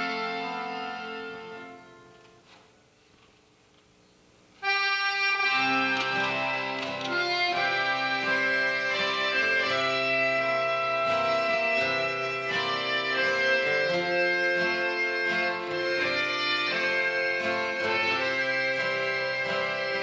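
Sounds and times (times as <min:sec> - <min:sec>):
piano accordion tune: 0:00.0 - 0:02.5, 0:04.6 - 0:20.0
acoustic guitar strumming: 0:00.0 - 0:02.8, 0:04.6 - 0:20.0.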